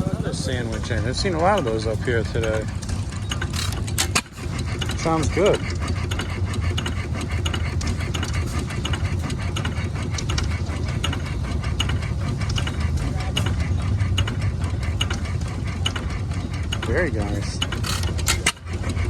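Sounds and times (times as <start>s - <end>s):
gas engine droning: 0.0s - 19.0s
mechanical clicking clatter: 0.0s - 19.0s.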